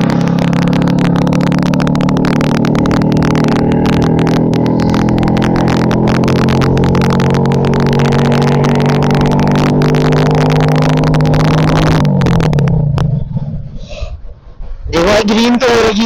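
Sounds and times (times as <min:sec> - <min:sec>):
loud motorcycle engine running: 0:00.0 - 0:13.8.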